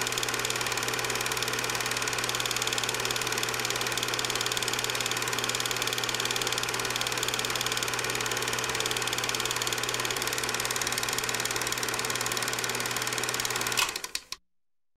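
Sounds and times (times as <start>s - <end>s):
motor hum: 0.0s - 14.1s
film projector clattering: 0.0s - 14.4s.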